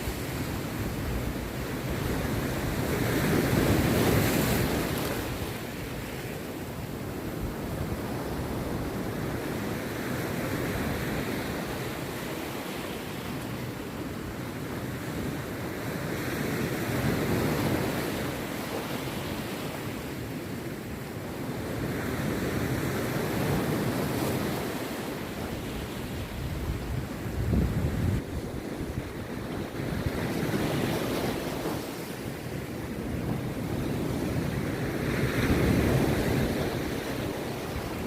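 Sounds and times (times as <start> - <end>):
rough surf breaking on beach: 0.0 - 38.0.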